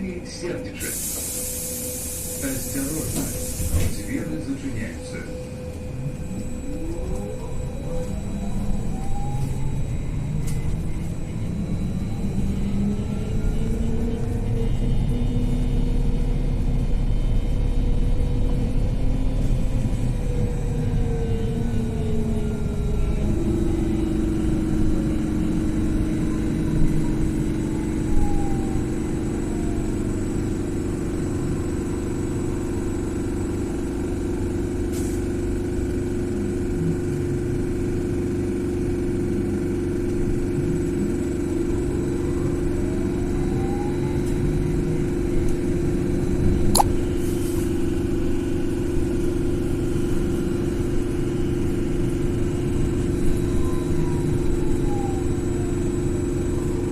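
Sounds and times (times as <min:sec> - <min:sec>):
electric traction drive whine: 0:00.0 - 0:56.9
road rumble: 0:00.0 - 0:56.9.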